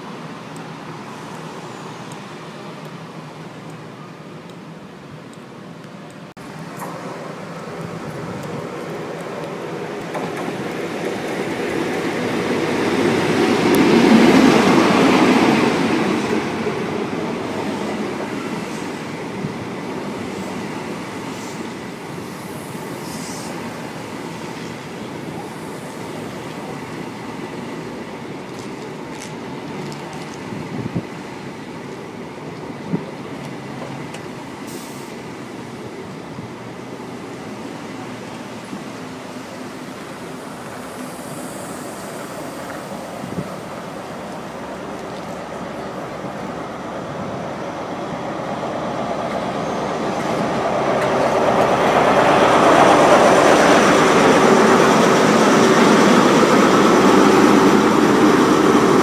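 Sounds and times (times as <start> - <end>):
diesel train engine passing: 0.0 - 59.0
train coaches rumbling on rails: 0.0 - 59.0.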